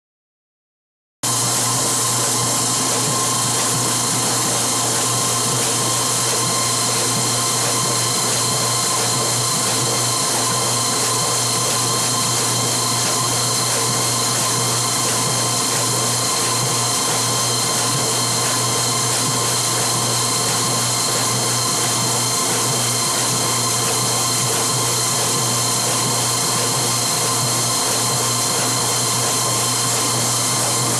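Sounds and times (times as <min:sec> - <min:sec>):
washing machine whirring: 0:01.2 - 0:30.9.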